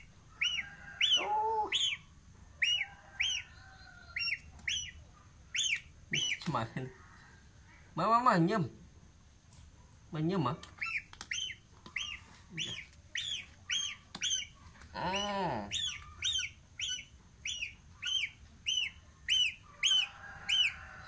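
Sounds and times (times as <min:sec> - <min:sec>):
gosling peeping: 0:00.0 - 0:06.7, 0:10.4 - 0:21.0.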